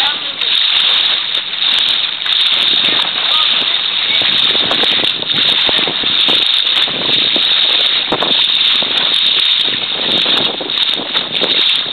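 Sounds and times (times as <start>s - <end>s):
water rushing and splashing: 0.0s - 11.9s
wind buffeting microphone: 0.0s - 11.9s.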